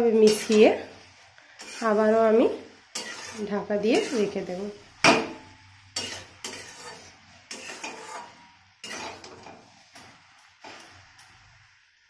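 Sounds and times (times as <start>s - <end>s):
metal spatula scraping metal pan: 0.0s - 11.0s.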